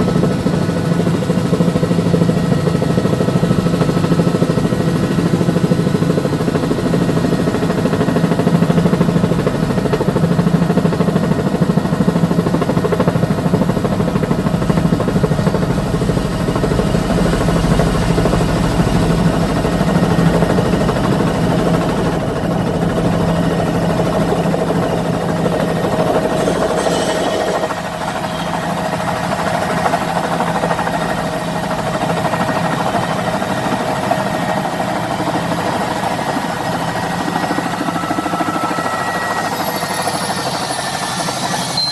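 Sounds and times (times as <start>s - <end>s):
helicopter engine and rotor: 0.0s - 41.9s.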